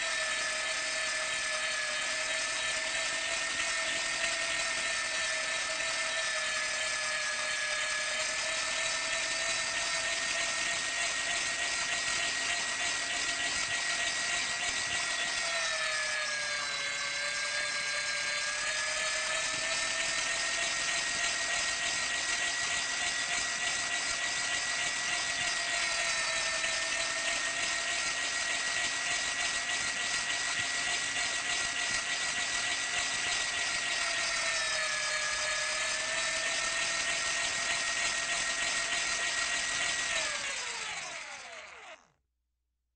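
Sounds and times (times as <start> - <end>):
meat grinder motor whine: 0.0 - 42.2.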